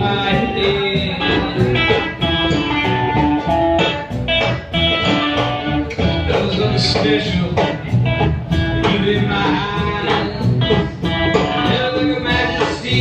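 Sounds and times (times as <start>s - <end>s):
blues guitar: 0.0s - 13.0s
steady beat: 0.0s - 13.0s.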